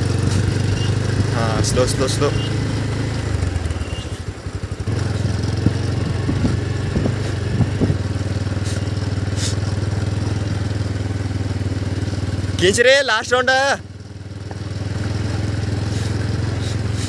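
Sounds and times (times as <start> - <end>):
small vehicle engine running: 0.0 - 17.0.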